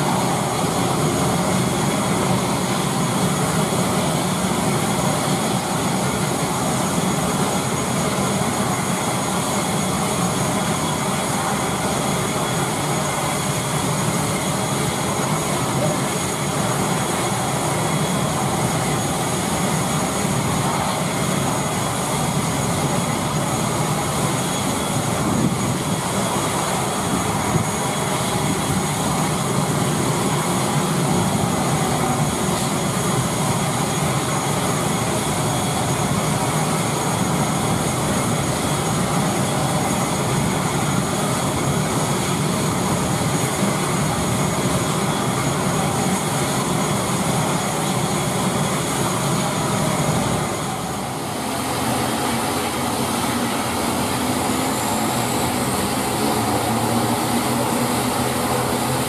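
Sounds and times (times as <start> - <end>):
high constant whine: 0.0 - 59.0
turboprop engine running: 0.0 - 59.0.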